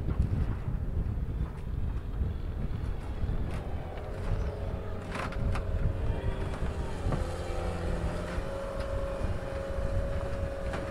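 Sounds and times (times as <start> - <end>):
excavator engine with hydraulic whine: 1.3 - 10.9.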